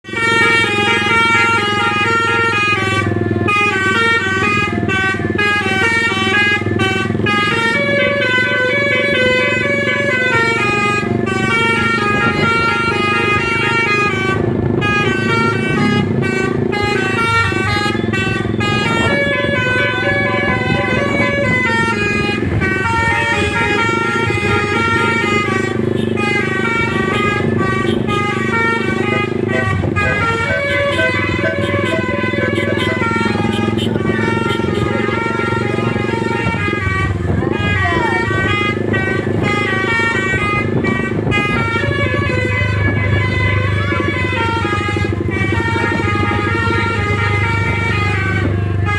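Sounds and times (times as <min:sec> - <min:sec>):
multi-tone musical bus horn: 0:00.0 - 0:48.9.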